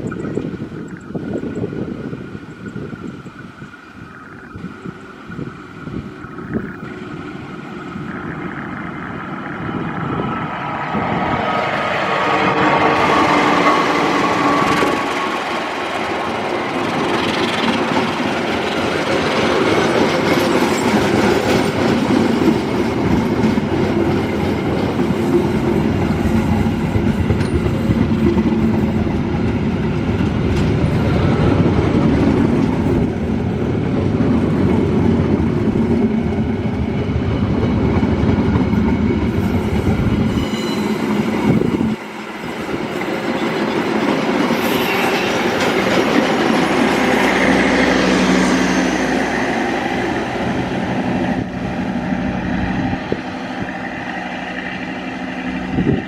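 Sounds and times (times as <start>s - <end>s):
train wheels clacking on rails: 4.4s - 52.0s.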